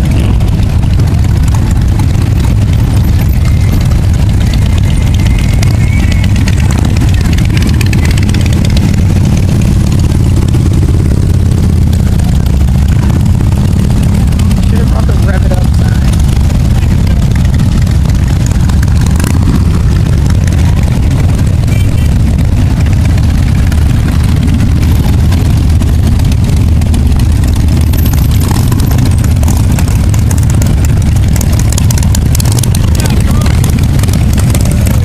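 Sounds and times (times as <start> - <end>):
motorcycles exhaust rumble: 0.0 - 35.0.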